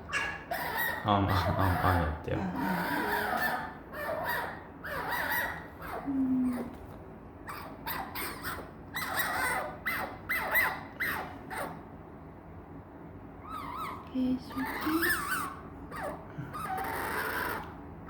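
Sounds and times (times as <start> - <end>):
fox squeaky whining calls: 0.1 - 6.7, 7.4 - 11.8, 13.4 - 17.7.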